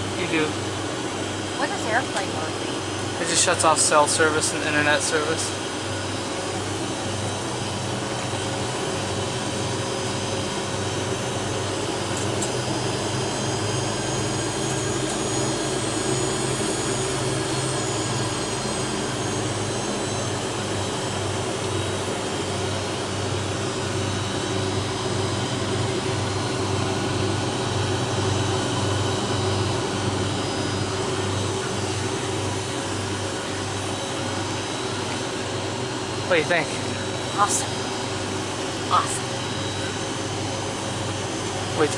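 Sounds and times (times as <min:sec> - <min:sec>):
jet engines running: 0:00.0 - 0:41.9
low pulsing hum: 0:05.2 - 0:41.9.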